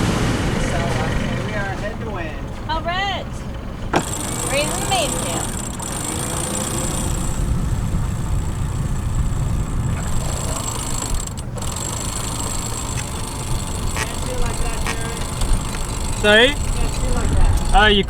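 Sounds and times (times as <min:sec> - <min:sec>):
boat engines rumbling: 0:00.0 - 0:18.0.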